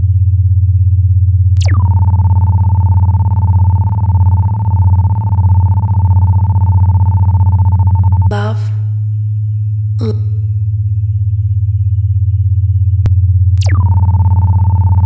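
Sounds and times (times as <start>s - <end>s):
low pulsing bass drone: 0.0s - 15.0s.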